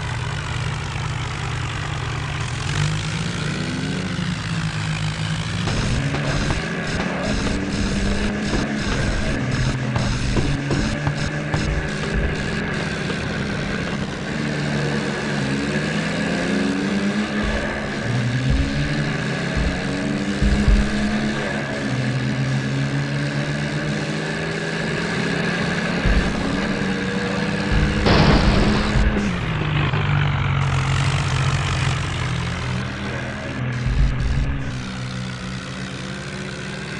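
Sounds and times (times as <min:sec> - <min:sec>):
tractor diesel engines straining: 0:00.0 - 0:36.9.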